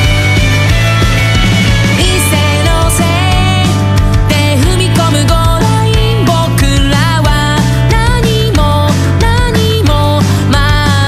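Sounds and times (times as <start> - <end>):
pop music: 0.0 - 11.0.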